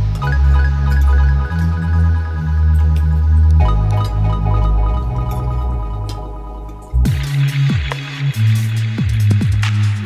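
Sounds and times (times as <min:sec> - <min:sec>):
electronic music with bass: 0:00.0 - 0:10.0.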